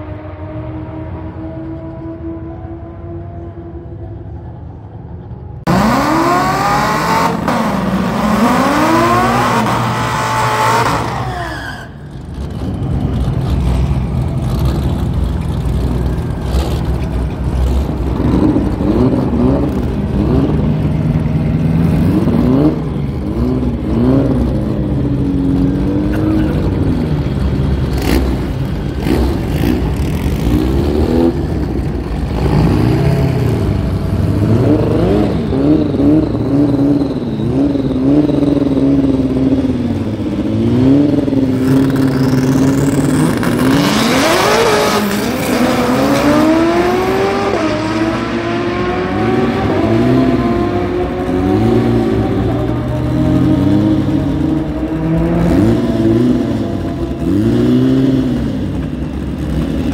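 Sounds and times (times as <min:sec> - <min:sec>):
engines revving: 0:00.0 - 0:59.9
car engine accelerating hard: 0:05.6 - 0:59.9.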